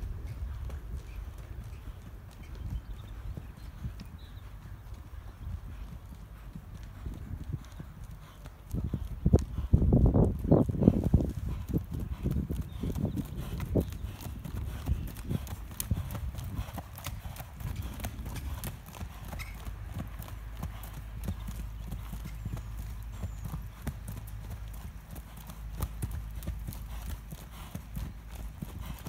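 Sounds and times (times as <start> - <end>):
hoofbeats on sand: 0.0 - 29.0.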